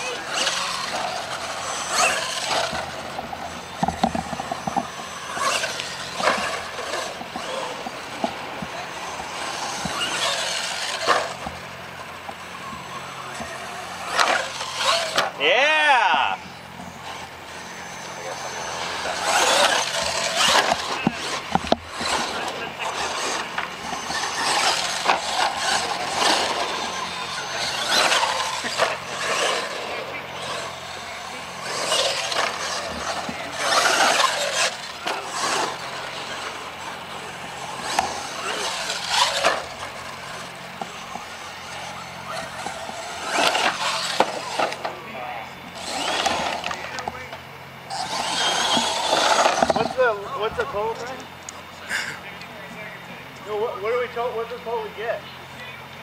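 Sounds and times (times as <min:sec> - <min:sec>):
toy truck motor whirring: 0:00.0 - 0:44.9, 0:45.6 - 0:47.3, 0:47.9 - 0:51.2
tyres scrabbling on dirt: 0:00.0 - 0:51.6.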